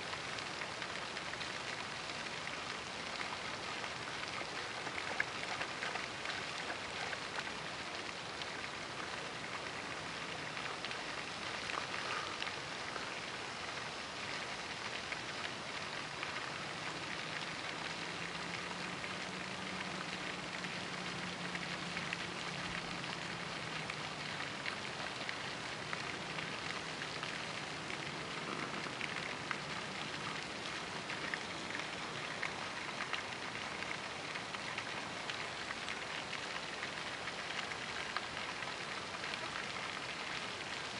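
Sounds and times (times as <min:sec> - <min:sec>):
fountain spray splashing on water: 0:00.0 - 0:40.9.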